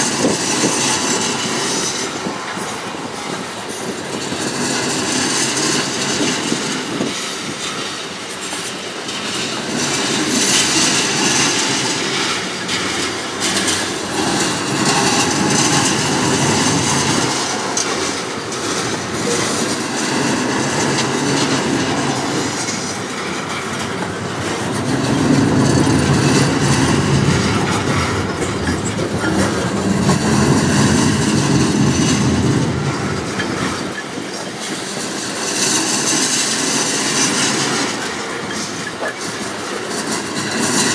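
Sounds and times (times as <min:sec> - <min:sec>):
freight train rolling past: 0:00.0 - 0:40.9
wheels clicking over rail joints: 0:00.0 - 0:40.9.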